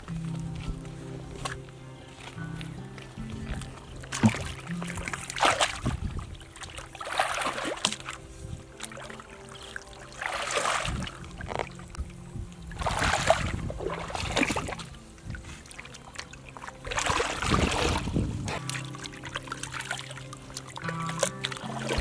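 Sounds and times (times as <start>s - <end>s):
faint background music: 0.0s - 22.0s
water splashing and sloshing: 0.0s - 22.0s.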